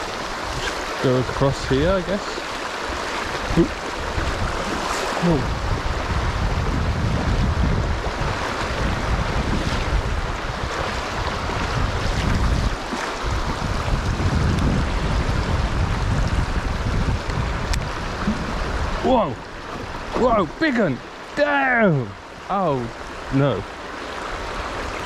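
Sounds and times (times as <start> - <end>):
wind buffeting microphone: 0.0 - 20.9
river water rushing over shoals: 0.0 - 25.0.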